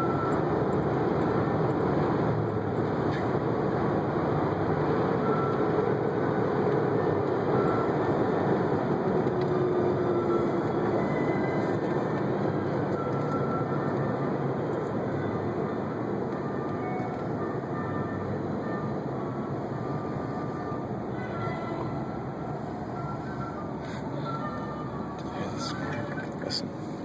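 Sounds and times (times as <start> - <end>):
vehicle running noise: 0.0 - 27.0.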